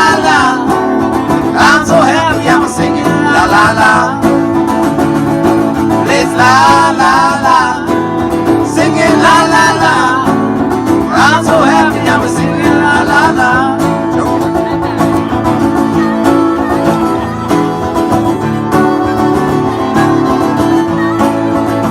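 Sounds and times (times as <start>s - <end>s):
banjo and guitar picking: 0.0s - 21.9s
old-time string band: 0.0s - 21.9s.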